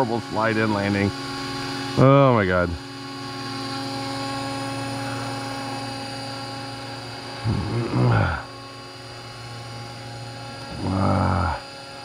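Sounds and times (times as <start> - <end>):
model helicopter whine: 0.0 - 12.0.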